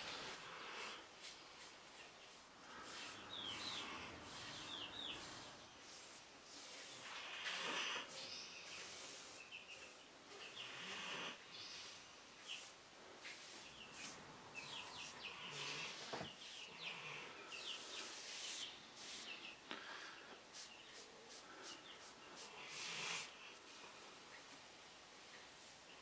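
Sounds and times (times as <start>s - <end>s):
brush rubbing varnish on wood: 0.0s - 10.1s, 12.4s - 19.6s, 20.4s - 24.2s
small birds chirping: 0.0s - 26.0s.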